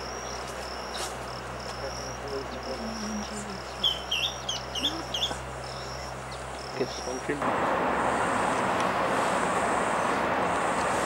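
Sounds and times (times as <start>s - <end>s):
pulsing insect trill: 0.0s - 11.0s.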